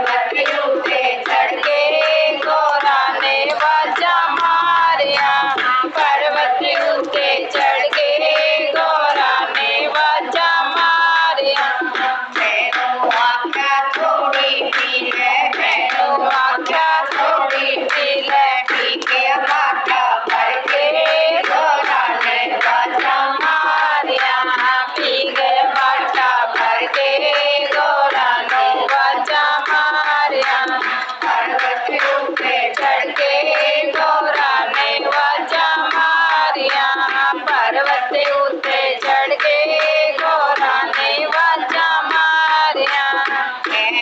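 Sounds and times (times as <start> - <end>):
group singing devotional song: 0.0 - 44.0
hand-clapping: 0.0 - 44.0.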